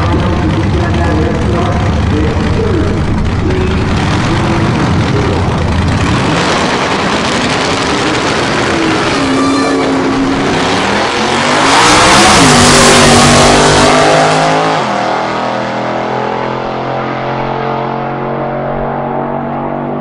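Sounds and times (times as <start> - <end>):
trucks revving at full throttle: 0.0 - 20.0.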